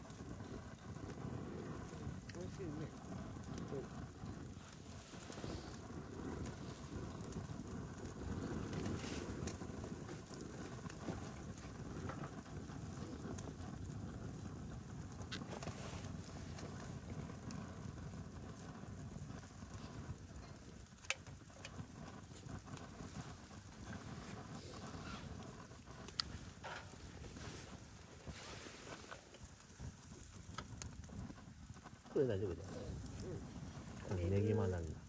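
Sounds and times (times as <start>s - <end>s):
campfire crackling pops: 0.0s - 35.0s
low fire rumble: 0.0s - 35.0s.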